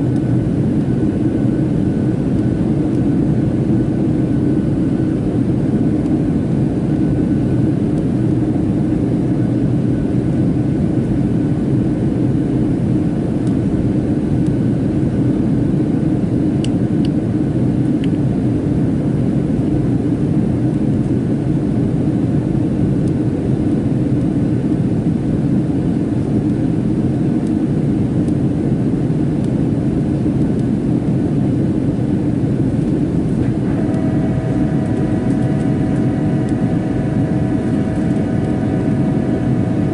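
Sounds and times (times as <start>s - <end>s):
higher steady hum: 0.0s - 18.6s, 24.8s - 39.9s
low rumble of jet engines: 0.0s - 39.9s.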